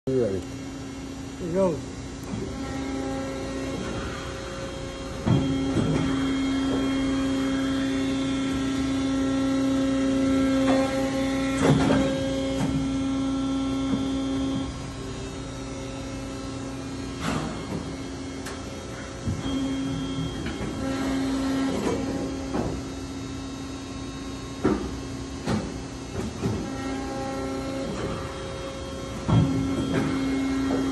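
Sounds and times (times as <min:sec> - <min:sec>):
machine hum with pitched whine: 0:00.1 - 0:30.9.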